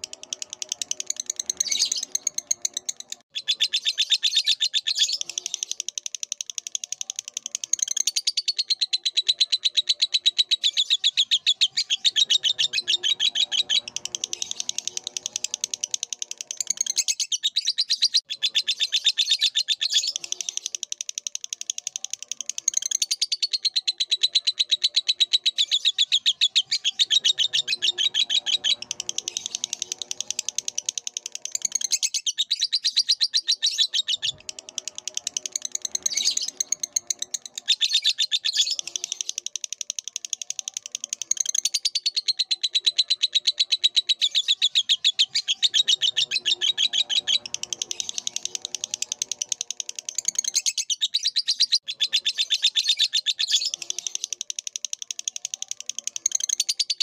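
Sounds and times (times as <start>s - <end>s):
lovebird chirping: 0.0s - 57.0s.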